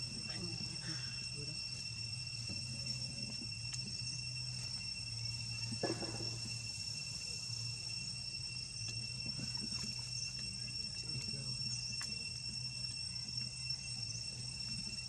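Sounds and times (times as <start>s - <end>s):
high-pitched insect drone: 0.0s - 15.0s
low hum: 0.0s - 15.0s.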